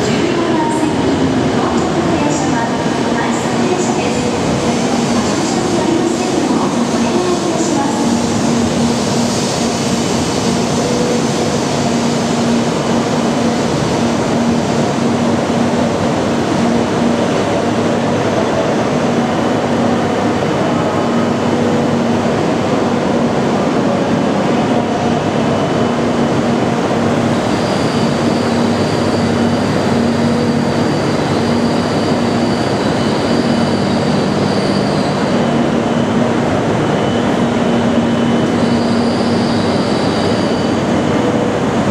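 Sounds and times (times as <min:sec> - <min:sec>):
train running noise: 0:00.0 - 0:41.9.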